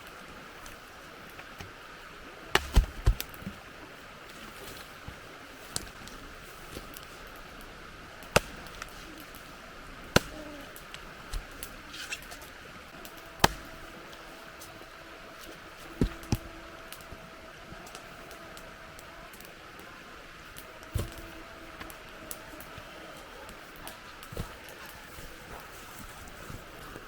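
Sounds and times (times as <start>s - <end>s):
faint steady hum: 0.0s - 27.0s
outdoor background noise: 0.0s - 27.0s.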